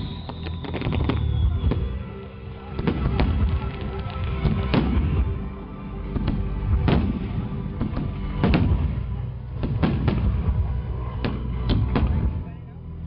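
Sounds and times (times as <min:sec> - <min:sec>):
fireworks bursting with sharp bangs: 0:00.0 - 0:12.5
low rumble: 0:00.0 - 0:13.0.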